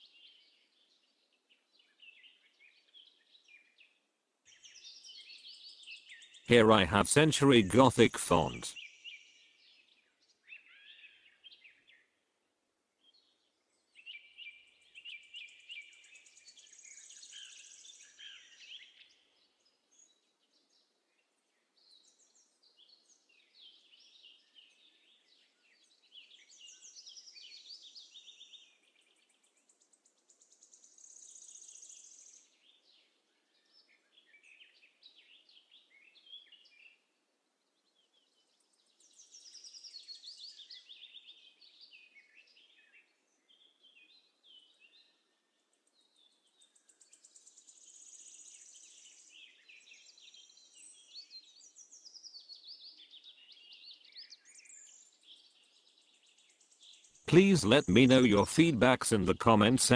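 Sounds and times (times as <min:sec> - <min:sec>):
faint birdsong: 0:00.0 - 0:06.8, 0:08.6 - 0:58.4.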